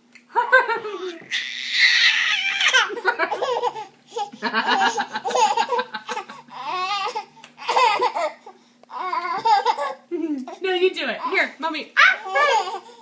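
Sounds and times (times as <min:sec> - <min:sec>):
baby laughing: 0:00.6 - 0:10.6, 0:12.0 - 0:13.0.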